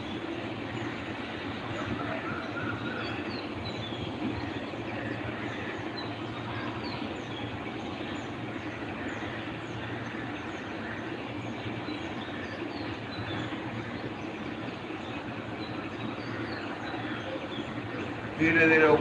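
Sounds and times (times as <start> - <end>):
low outdoor background rumble: 0.0 - 19.0.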